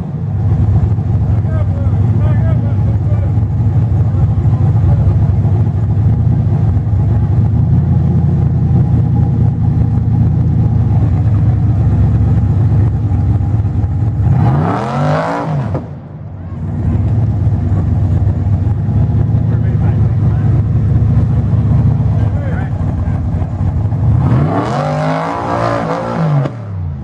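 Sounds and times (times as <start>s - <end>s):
buggy engine revving: 0.0s - 27.0s.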